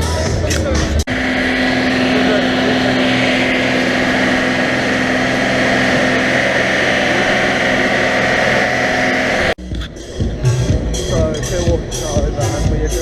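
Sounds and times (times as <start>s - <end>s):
racing car engines idling: 0.1s - 13.0s.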